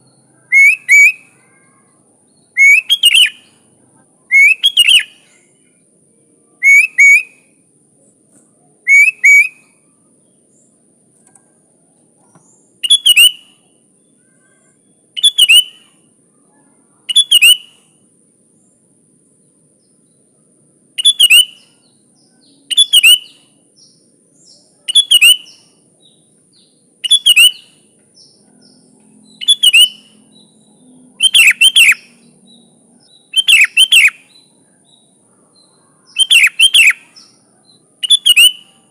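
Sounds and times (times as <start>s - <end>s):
bulbul singing: 0.0s - 7.6s, 8.3s - 11.4s, 12.2s - 18.8s, 19.4s - 38.9s
faint high-pitched whine: 0.0s - 38.9s.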